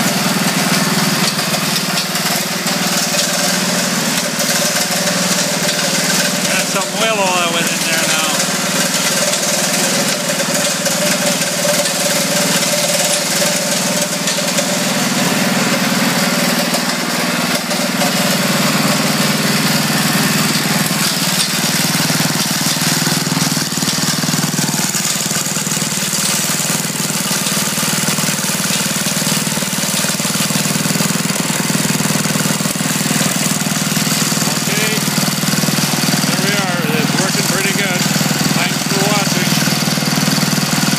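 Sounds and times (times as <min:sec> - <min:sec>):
wood chipper running: 0:00.0 - 0:40.9.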